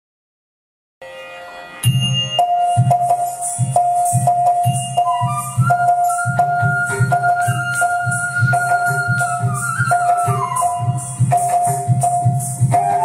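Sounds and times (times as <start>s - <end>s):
held melody note: 1.0s - 13.0s
drum strokes: 1.7s - 13.0s.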